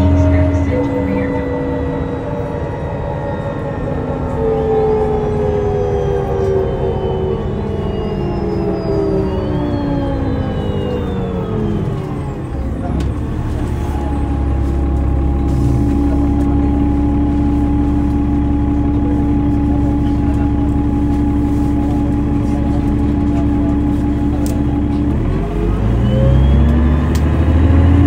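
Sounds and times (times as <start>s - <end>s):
bus drivetrain whine: 0.0s - 28.0s
diesel engine drone: 0.0s - 28.0s.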